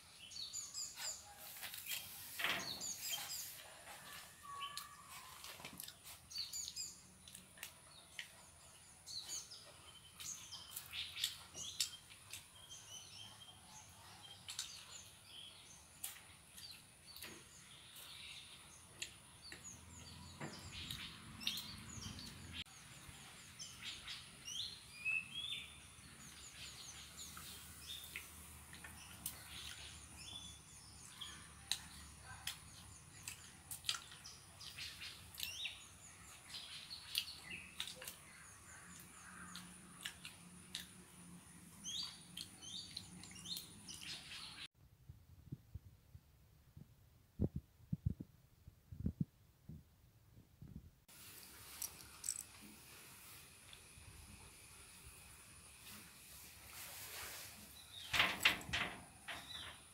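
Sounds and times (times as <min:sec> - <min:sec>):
small birds chirping: 0:00.0 - 0:44.7, 0:50.6 - 0:59.9.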